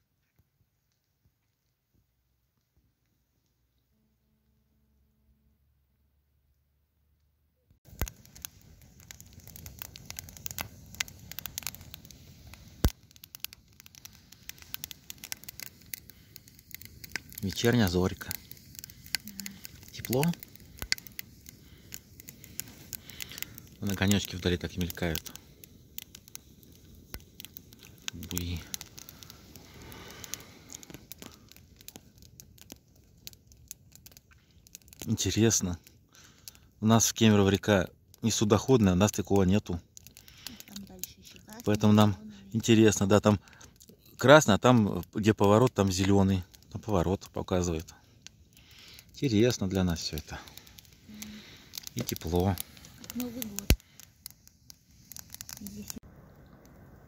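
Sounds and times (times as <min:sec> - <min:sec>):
campfire crackling and popping: 0:07.8 - 0:57.0.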